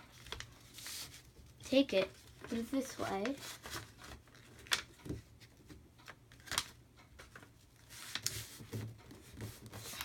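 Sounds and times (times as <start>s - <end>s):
paper being folded and creased: 0.1s - 10.0s.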